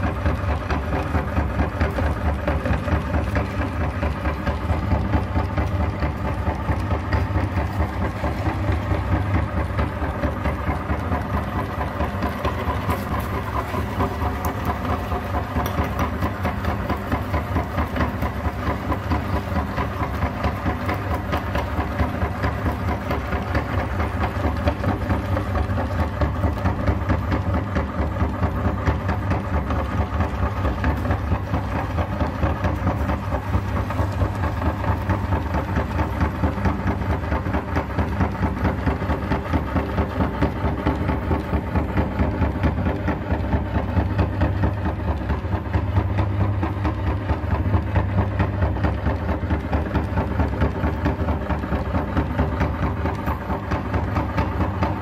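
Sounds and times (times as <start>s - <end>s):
electric meat grinder running: 0.0s - 55.0s.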